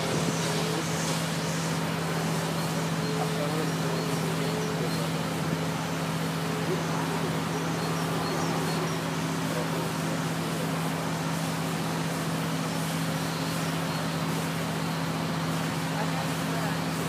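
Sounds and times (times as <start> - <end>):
hiss of fluid spray: 0.0 - 17.0
truck engine droning: 0.0 - 17.0.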